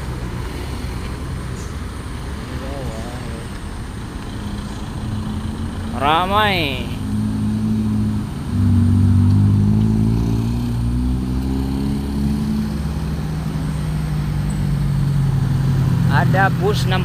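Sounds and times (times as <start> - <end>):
vehicle engines droning uphill: 0.0 - 17.0.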